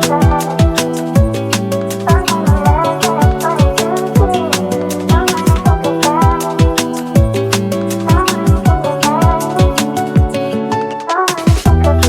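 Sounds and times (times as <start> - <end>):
electronic beat music: 0.0 - 12.0.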